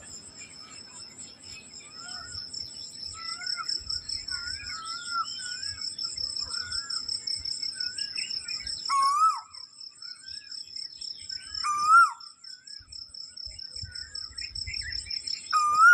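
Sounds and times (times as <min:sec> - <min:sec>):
birds whistling: 0:00.0 - 0:15.9.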